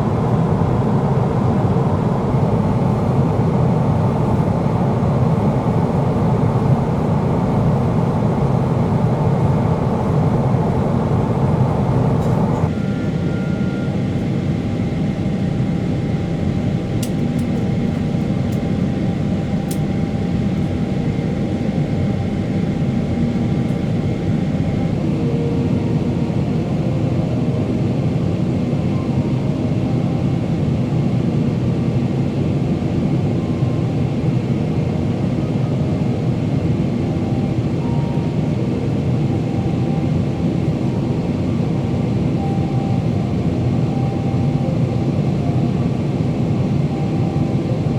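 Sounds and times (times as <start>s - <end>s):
airplane cabin engine rumble: 0.0s - 47.9s
faint steady whine: 0.0s - 47.9s.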